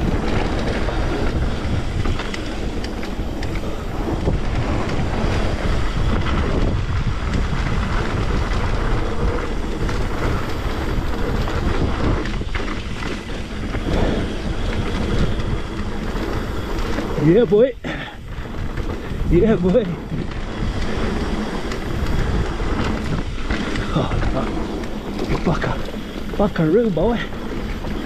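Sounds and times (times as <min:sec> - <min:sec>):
bike rattling and knocking: 0:00.0 - 0:28.0
tyres roaring on trail: 0:00.0 - 0:28.0
wind rushing over microphone: 0:00.0 - 0:28.0.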